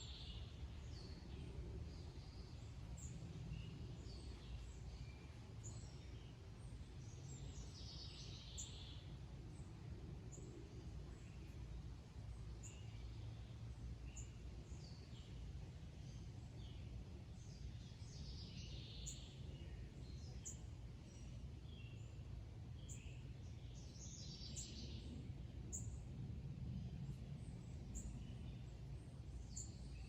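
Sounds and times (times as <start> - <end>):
wild birds chirping: 0.0 - 26.1, 26.8 - 30.0
low background rumble: 0.0 - 30.0.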